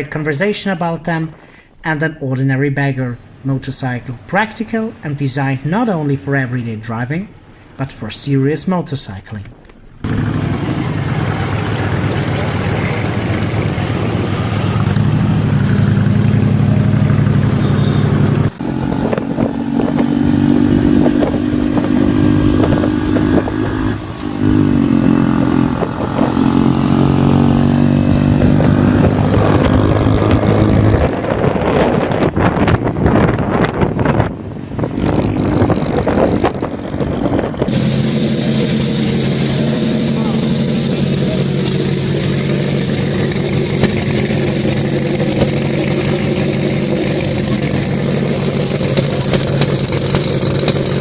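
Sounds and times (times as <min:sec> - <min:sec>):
motorcycle engines revving: 0:10.0 - 0:51.0.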